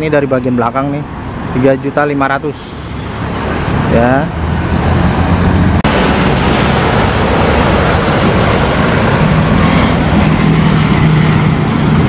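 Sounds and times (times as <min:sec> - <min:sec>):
engine low drone: 0:00.0 - 0:12.0
road traffic: 0:00.0 - 0:12.0.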